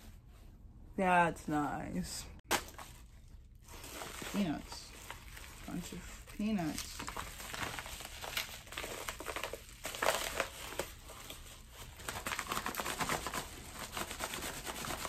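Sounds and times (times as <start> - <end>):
padded envelope crinkling: 2.5 - 15.0.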